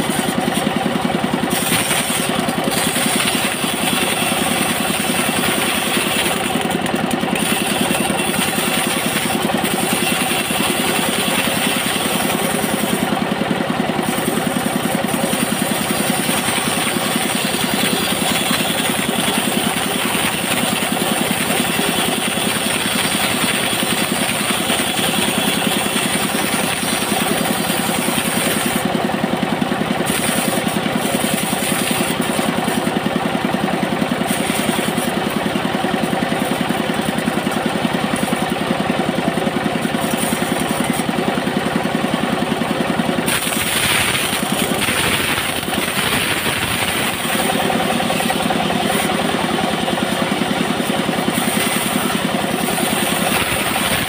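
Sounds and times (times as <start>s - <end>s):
bandsaw mill engine running: 0.0s - 54.0s
saw blade ripping wood: 0.0s - 54.0s.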